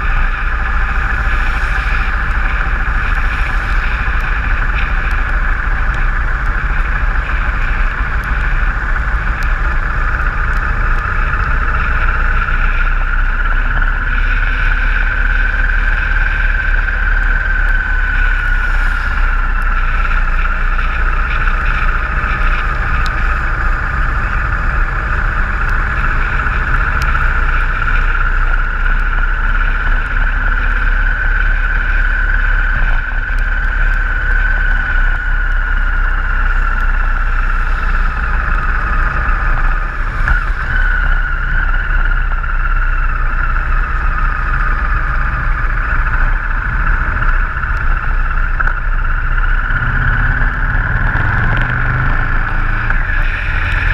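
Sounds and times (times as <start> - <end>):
motorcycle engine: 0.0 - 53.9
steady whine: 0.0 - 53.9
tyres on wet road: 0.0 - 53.9
wind rush over camera: 0.0 - 53.9.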